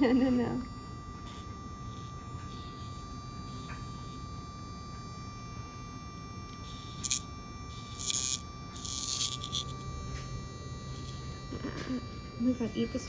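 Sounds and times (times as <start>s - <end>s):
electric nail grinder whine: 0.0s - 13.0s.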